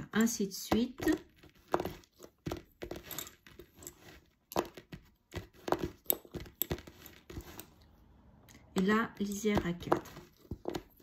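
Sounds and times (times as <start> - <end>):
lace bobbins clicking: 0.0 - 11.0.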